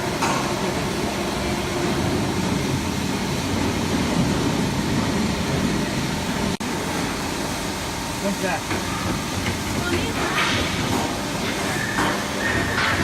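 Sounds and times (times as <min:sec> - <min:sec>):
plate rolling machine hum: 0:00.0 - 0:13.0.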